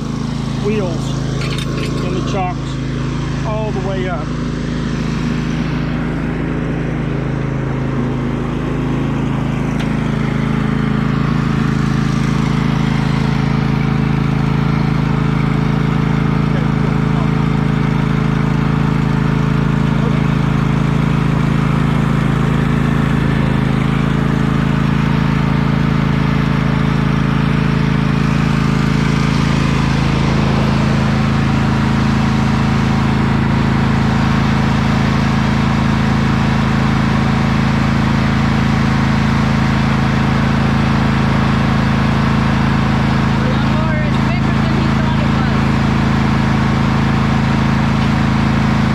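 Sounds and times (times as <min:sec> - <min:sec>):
riding lawn mower engine: 0:00.0 - 0:48.9.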